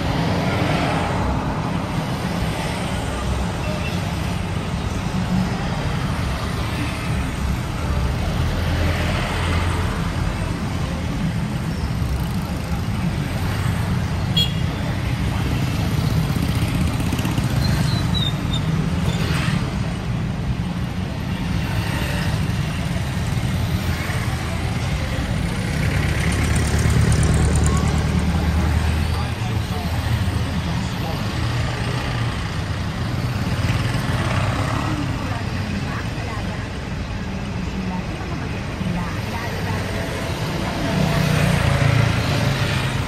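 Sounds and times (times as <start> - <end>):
motorcycles passing: 0.0 - 43.0.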